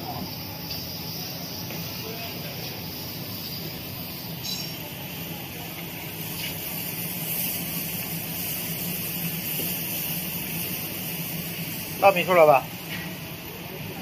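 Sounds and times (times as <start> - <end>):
film hissing over rollers: 0.0 - 14.0.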